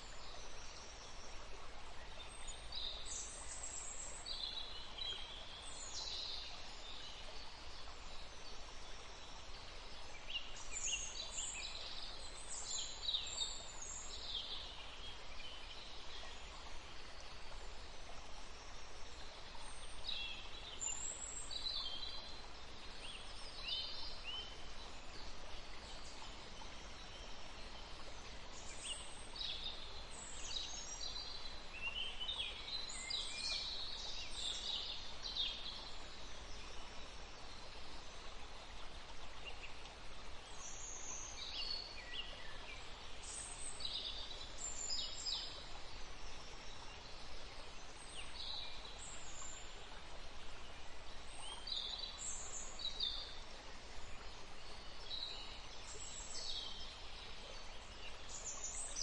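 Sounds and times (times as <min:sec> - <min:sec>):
forest ambience hiss: 0:00.0 - 0:59.0.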